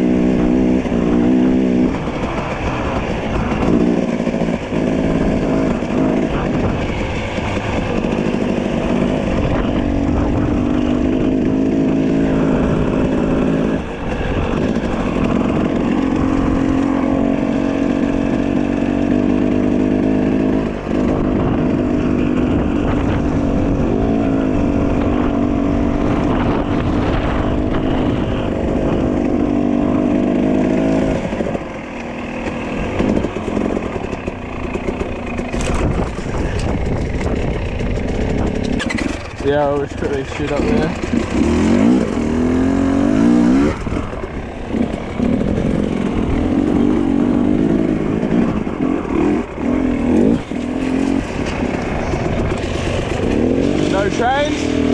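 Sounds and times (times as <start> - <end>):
dirt bike engine running: 0.0 - 54.9.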